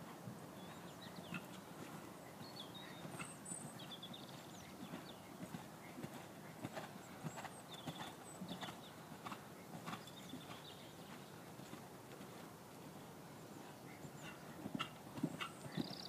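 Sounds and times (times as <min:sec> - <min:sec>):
horse hoofbeats on soft ground: 0:00.0 - 0:16.0.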